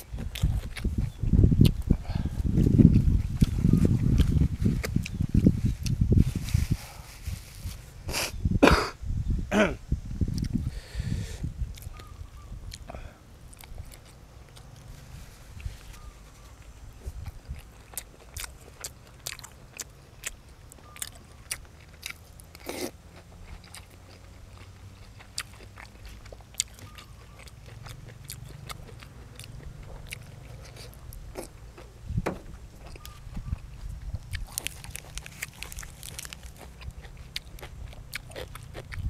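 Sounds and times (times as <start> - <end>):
person chewing crunchy food: 0.0 - 6.4, 11.7 - 12.1, 12.7 - 15.0, 15.6 - 32.0, 32.6 - 39.0.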